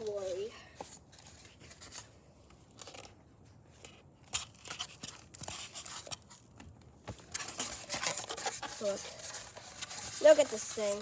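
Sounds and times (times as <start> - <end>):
foam and plastic rustling: 0.0 - 3.1, 3.8 - 11.0.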